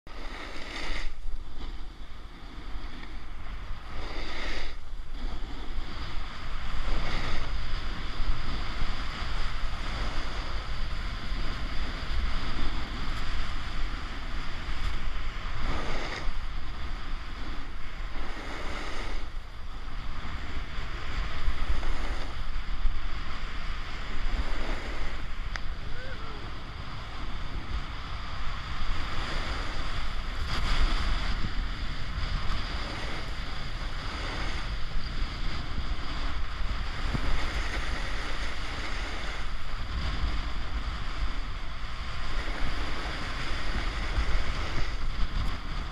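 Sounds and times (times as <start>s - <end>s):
snowboard edge scraping snow: 0.1s - 26.0s, 26.8s - 45.9s
wind buffeting microphone: 0.1s - 45.9s.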